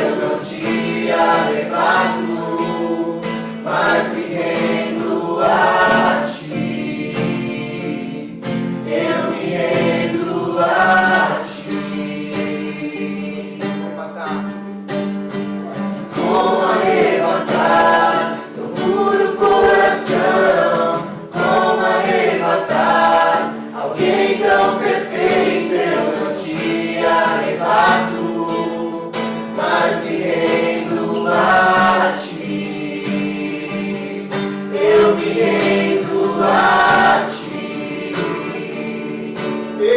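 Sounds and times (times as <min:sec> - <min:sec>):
group of people singing: 0:00.0 - 0:14.1, 0:15.7 - 0:39.9
acoustic guitar strumming: 0:00.0 - 0:39.9.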